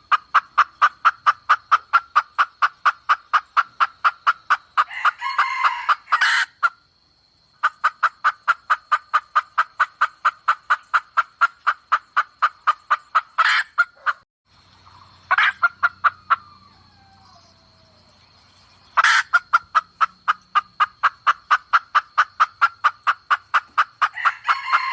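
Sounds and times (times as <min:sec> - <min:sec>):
hen clucking rapidly: 0:00.0 - 0:06.8, 0:07.6 - 0:16.8, 0:18.8 - 0:24.9.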